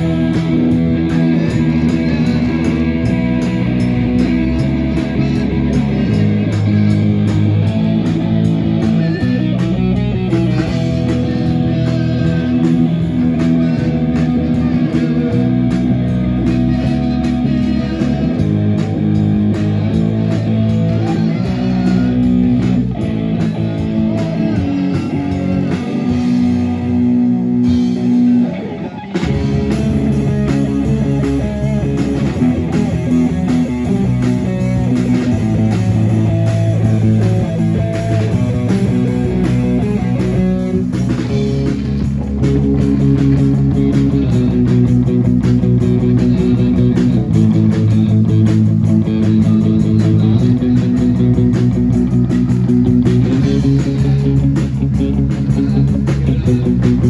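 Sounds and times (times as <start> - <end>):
bass guitar: 0.0 - 57.0
drums: 0.0 - 57.0
electric guitar: 0.0 - 57.0.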